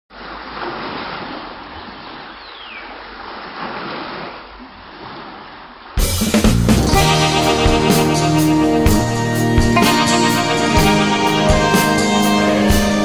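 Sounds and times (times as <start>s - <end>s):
waves breaking: 0.1s - 13.0s.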